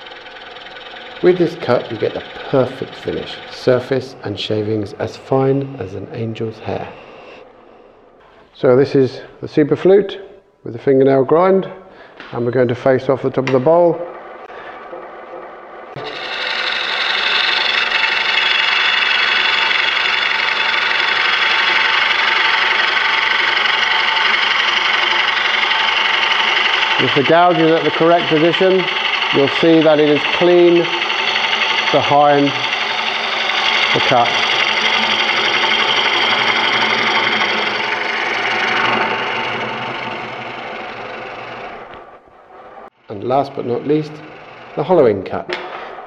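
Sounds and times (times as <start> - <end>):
bowl gouge cutting wood on lathe: 0.0 - 8.6, 12.1 - 46.0.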